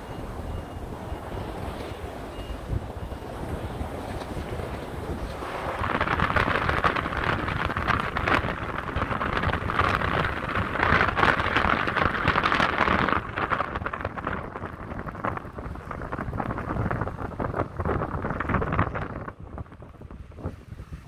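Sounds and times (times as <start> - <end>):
car tyres through slush: 0.3 - 21.0.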